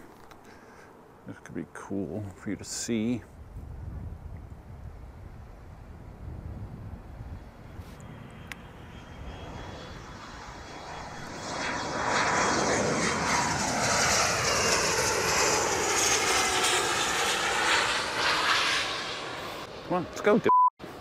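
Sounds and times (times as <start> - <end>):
jet flying low overhead: 0.0 - 21.0.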